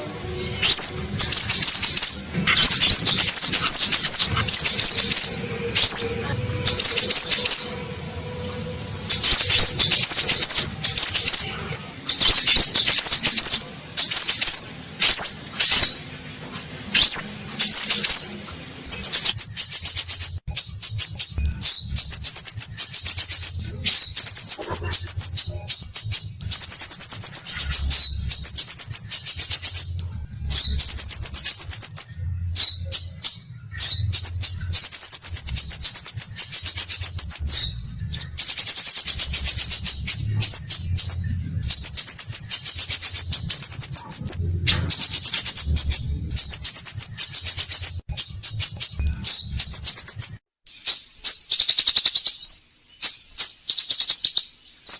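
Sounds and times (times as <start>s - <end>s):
bird singing trills and whistles: 0.0s - 8.0s, 9.1s - 16.1s, 16.9s - 54.9s.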